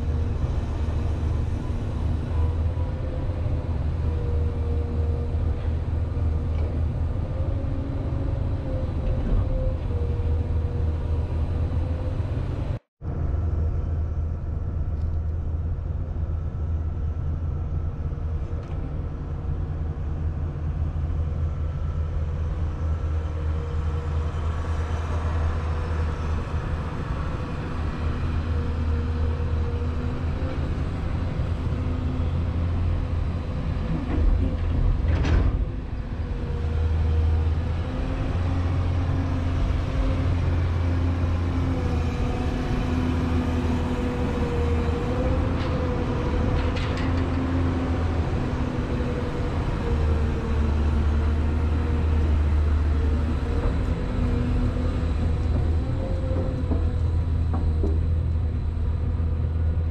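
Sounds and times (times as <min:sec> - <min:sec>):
diesel machinery droning: 0:00.0 - 0:59.9.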